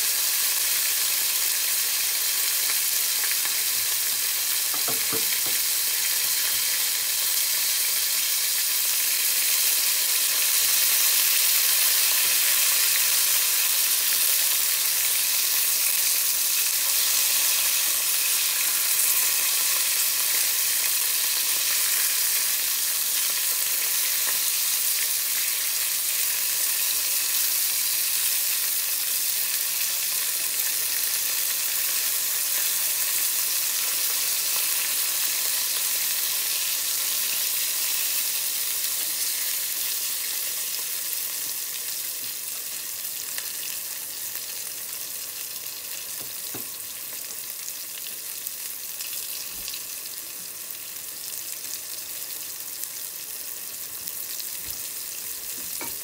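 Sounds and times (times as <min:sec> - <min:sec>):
eggplant sizzling in oil: 0:00.0 - 0:56.0.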